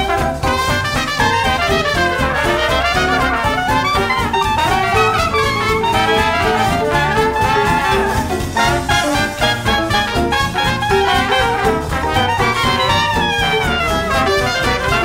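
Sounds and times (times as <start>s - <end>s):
upbeat jazz with brass: 0.0s - 15.0s.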